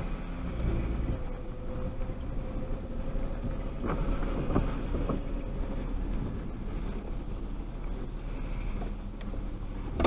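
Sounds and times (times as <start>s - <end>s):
engine and road rumble: 0.0s - 10.0s.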